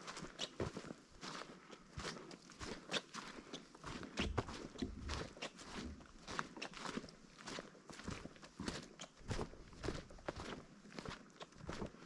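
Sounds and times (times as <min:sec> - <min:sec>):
footsteps on forest trail: 0:00.0 - 0:12.0.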